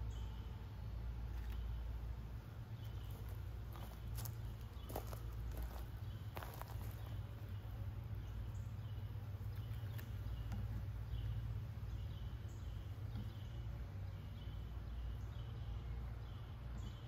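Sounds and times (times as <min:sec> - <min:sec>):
bird chirping: 0:00.0 - 0:17.0
honeybees humming: 0:00.0 - 0:17.0.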